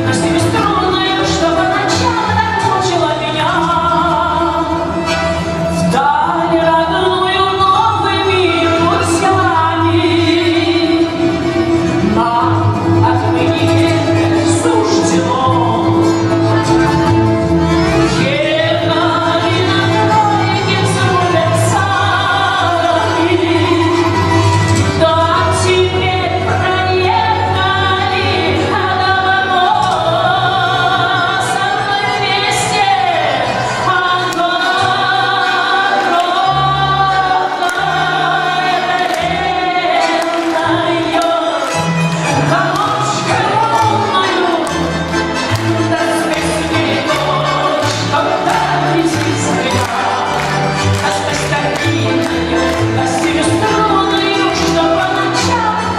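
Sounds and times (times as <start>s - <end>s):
balalaikas and accordion ensemble: 0.0s - 55.9s
woman singing: 0.0s - 55.9s.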